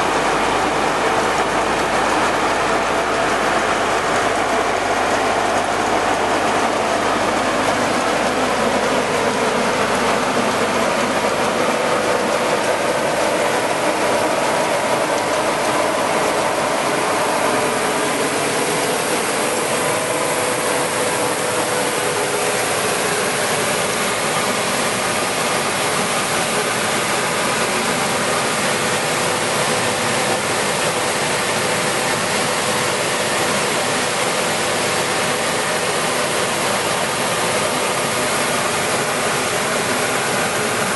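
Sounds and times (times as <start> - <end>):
grain cleaner machine running: 0.0 - 40.9.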